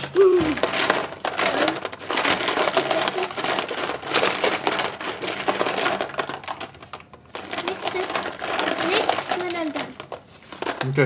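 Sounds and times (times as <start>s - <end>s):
plastic markers clattering: 0.0s - 11.0s.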